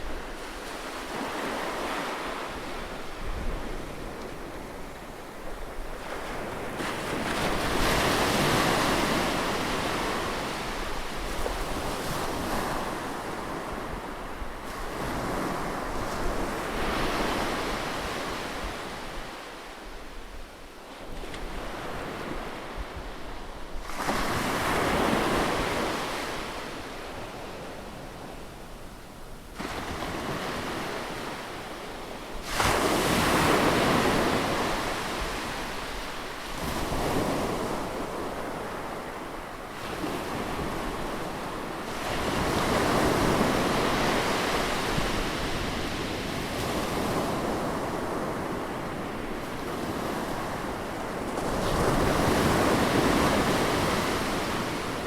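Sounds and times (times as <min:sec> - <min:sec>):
waves breaking on beach: 0:00.0 - 0:19.7, 0:29.5 - 0:55.0.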